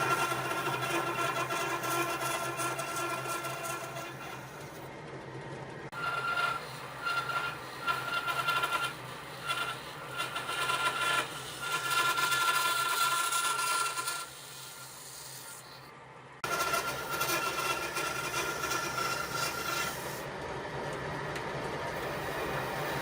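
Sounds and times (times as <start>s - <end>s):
tool rasping on wood with whine: 0.0s - 4.8s, 5.9s - 20.3s.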